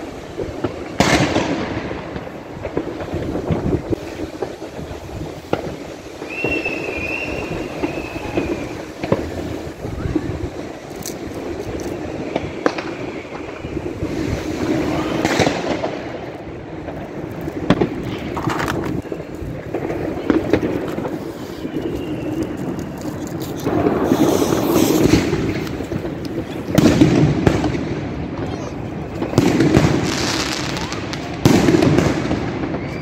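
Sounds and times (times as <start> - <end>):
fireworks banging and crackling: 0.0 - 33.0
firework whistle: 3.6 - 16.2, 17.6 - 33.0.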